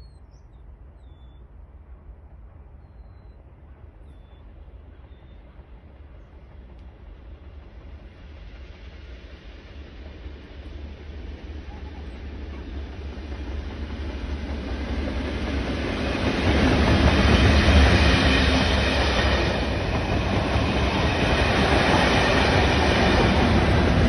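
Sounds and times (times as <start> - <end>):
train running on rails: 0.0 - 24.0.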